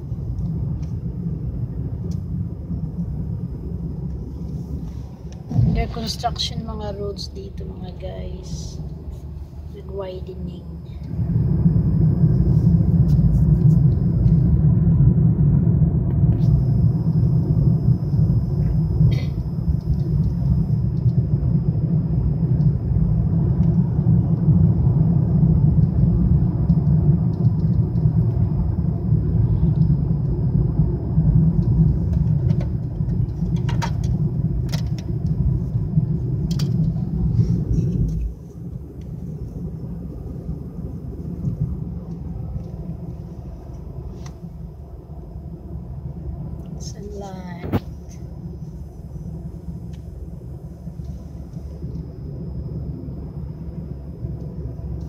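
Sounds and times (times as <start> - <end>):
road and engine rumble in car: 0.0 - 55.0.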